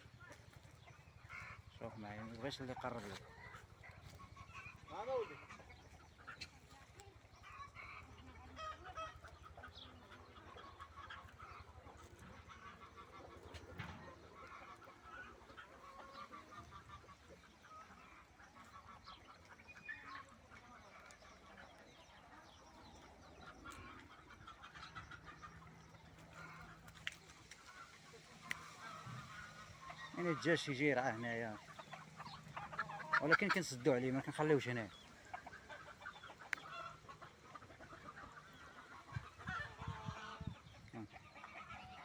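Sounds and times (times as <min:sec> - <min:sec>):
chickens clucking: 0:00.0 - 0:42.0
waterfowl calls: 0:00.0 - 0:42.0.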